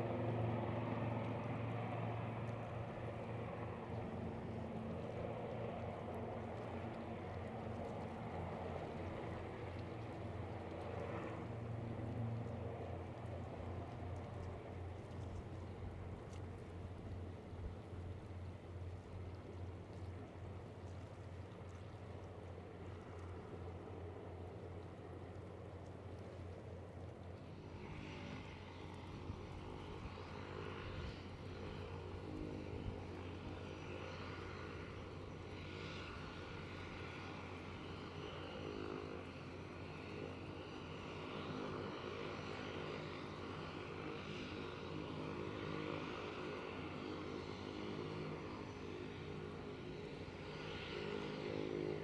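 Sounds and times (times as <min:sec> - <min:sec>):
propeller plane engine humming: 0:00.0 - 0:52.0.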